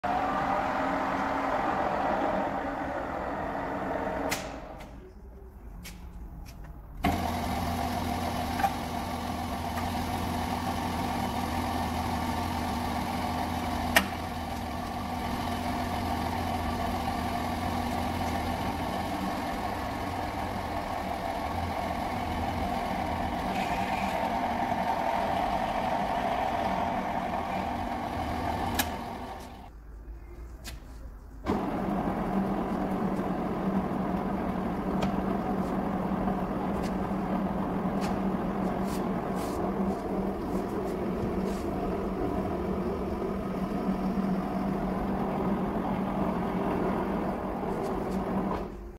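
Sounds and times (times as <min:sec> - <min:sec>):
drill press motor hum: 0:00.0 - 0:04.8, 0:07.0 - 0:29.7, 0:31.5 - 0:48.9.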